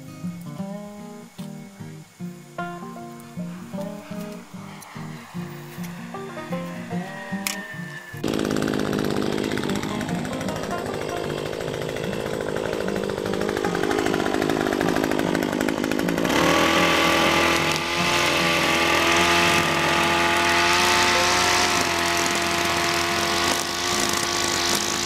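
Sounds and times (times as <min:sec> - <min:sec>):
chainsaw revving: 0:03.4 - 0:25.0.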